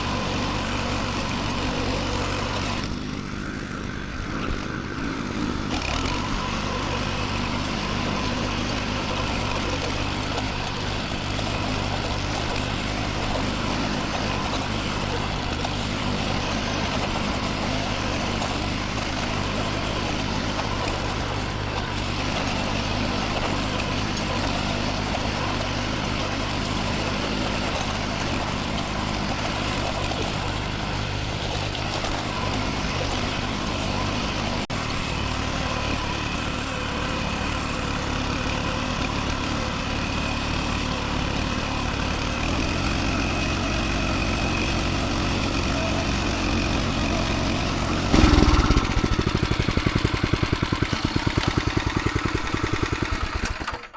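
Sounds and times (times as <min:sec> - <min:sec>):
farm machine engine running: 0:00.0 - 0:53.9.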